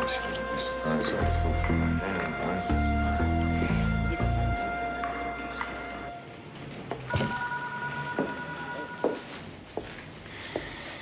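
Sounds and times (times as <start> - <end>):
footsteps crossing a room: 0.0 - 11.0.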